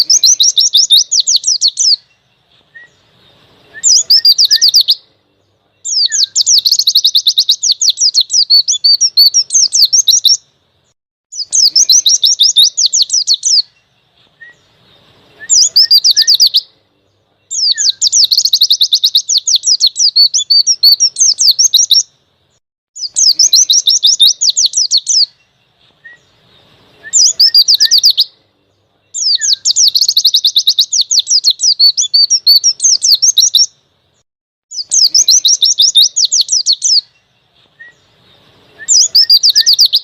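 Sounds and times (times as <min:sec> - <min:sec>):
bird singing rapid high trills: 0:00.0 - 0:40.0.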